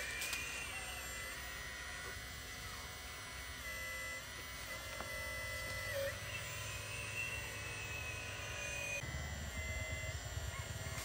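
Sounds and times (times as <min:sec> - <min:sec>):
electric pump motor whine: 0:00.0 - 0:11.0.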